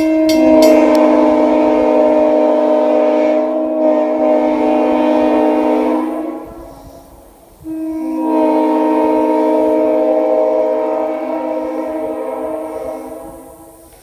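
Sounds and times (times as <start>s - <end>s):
air train horn chord: 0.0s - 14.0s.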